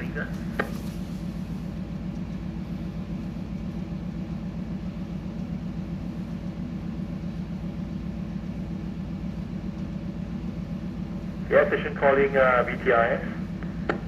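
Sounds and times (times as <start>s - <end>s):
ship engine drone: 0.0s - 14.0s.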